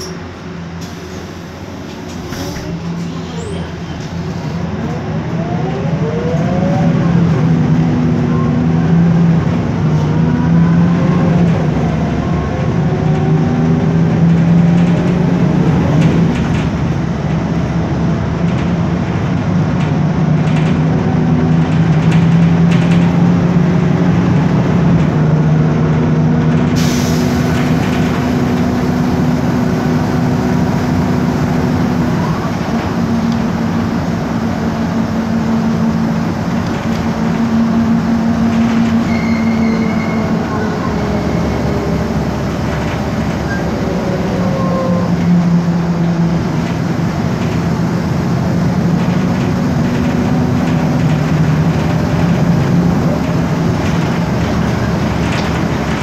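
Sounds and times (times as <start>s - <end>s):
bus engine running: 0.0s - 56.0s
rising transmission whine: 0.0s - 56.0s.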